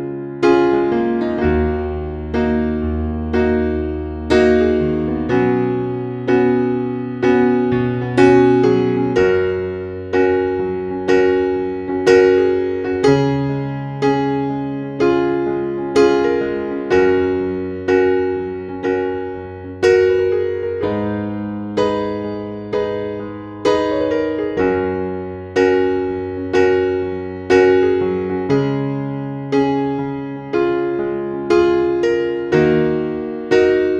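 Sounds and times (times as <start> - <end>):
electric piano melody: 0.0 - 33.9.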